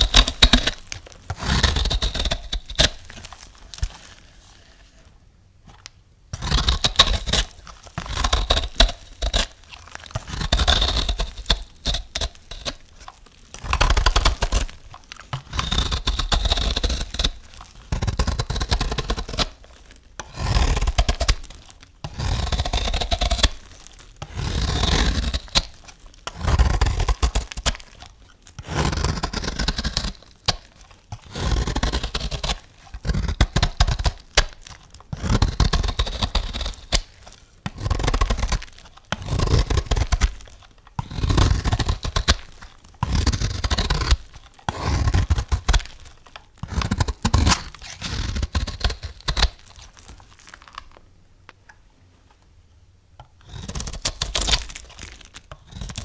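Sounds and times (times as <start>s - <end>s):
knife cutting bar soap: 0.0s - 5.0s, 5.7s - 51.0s, 53.2s - 56.0s.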